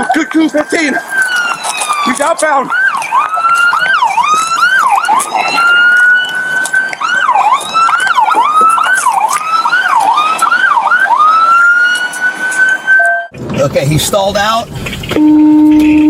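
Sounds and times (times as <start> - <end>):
electronic police siren: 0.0 - 13.4, 15.1 - 16.0.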